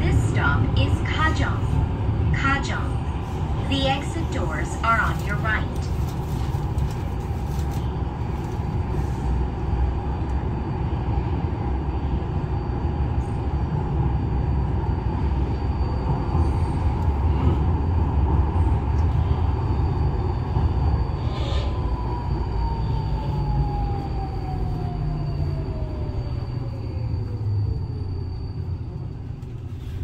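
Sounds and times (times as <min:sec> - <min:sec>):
subway train rumble with whine: 0:00.0 - 0:30.0.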